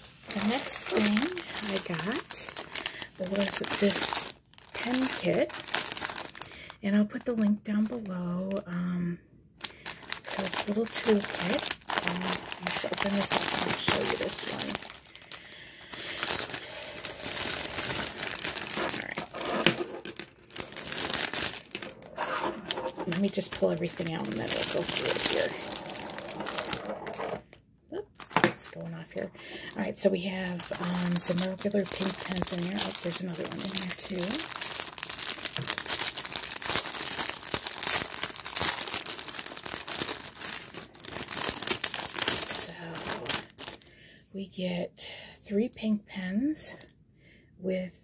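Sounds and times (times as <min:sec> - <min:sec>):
plastic bag crinkling: 0:00.0 - 0:08.1, 0:09.6 - 0:43.9.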